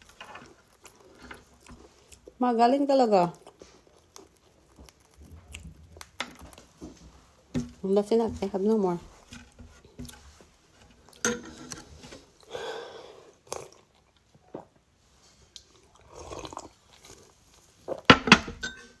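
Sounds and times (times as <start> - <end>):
crunching and chewing food: 0.0 - 12.6, 13.3 - 18.2.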